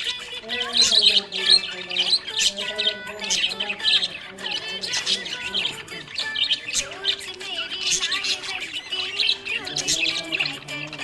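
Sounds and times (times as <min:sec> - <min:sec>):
parrots chirping and warbling: 0:00.0 - 0:11.0.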